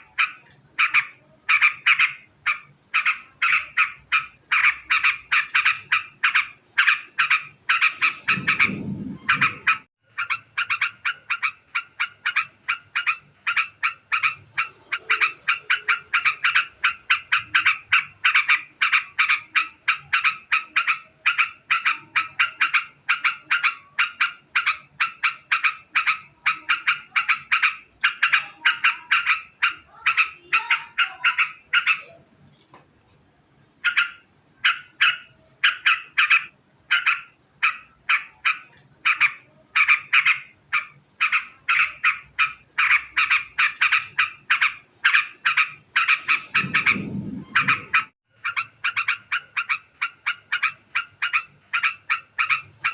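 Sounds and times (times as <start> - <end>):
bird fast chattering call: 0.0 - 32.1, 33.8 - 52.9.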